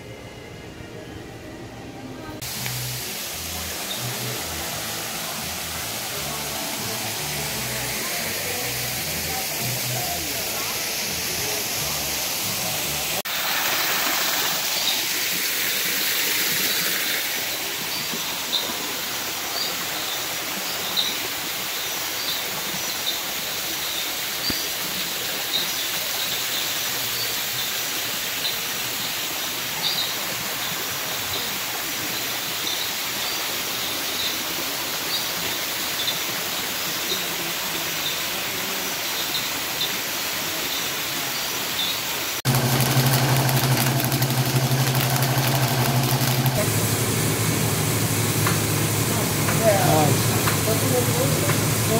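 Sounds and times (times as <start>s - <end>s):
water rushing: 2.4s - 51.9s.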